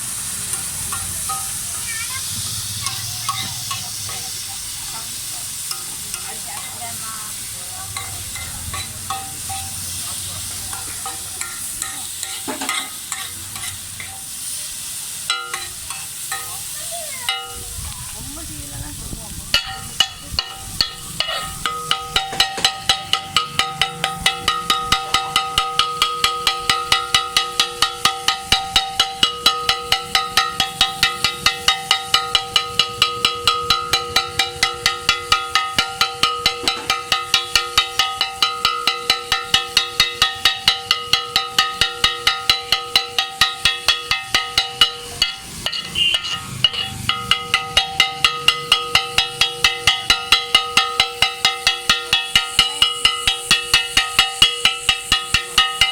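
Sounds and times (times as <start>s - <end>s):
steel blades clanging on griddle: 0.0s - 55.9s.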